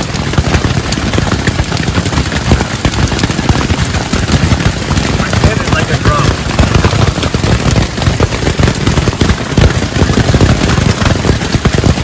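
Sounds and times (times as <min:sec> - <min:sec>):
hail drumming on tent: 0:00.0 - 0:12.0.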